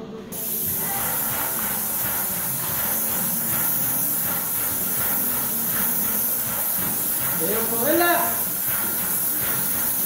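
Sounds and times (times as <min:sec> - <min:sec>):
paint spray gun hissing: 0:00.4 - 0:10.0.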